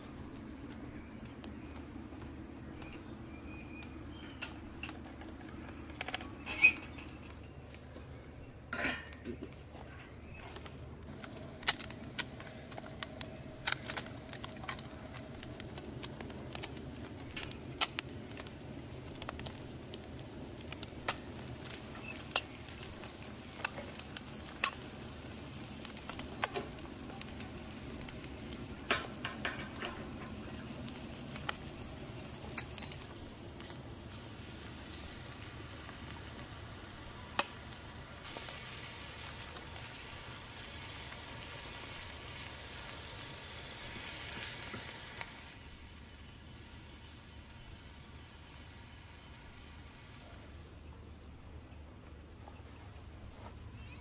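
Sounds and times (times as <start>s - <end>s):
sizzling hiss: 0.0s - 7.8s, 10.2s - 51.4s
sharp pops and crackles: 0.0s - 8.2s, 8.9s - 46.4s.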